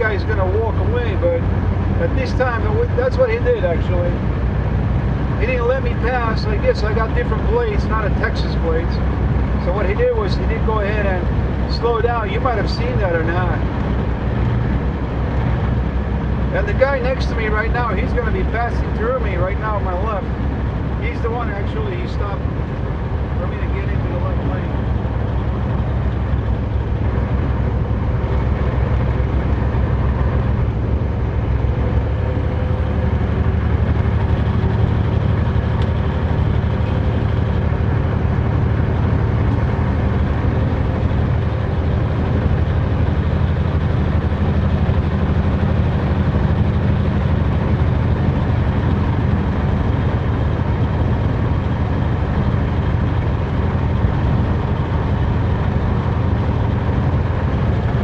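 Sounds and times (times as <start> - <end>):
low diesel engine drone: 0.0 - 58.0
road noise: 0.0 - 58.0.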